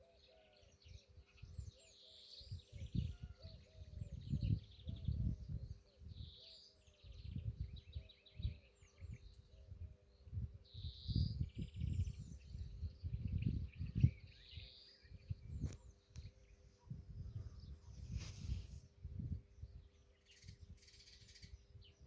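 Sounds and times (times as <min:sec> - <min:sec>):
nightingale singing: 0:00.0 - 0:18.4, 0:19.2 - 0:22.0
low rumble of wind on microphone: 0:02.5 - 0:22.0.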